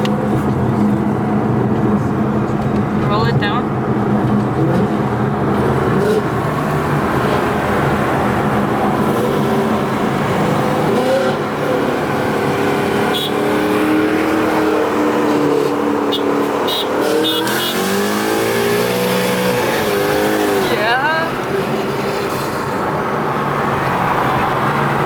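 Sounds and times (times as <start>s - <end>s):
car engine driving at low revs: 0.0s - 25.0s.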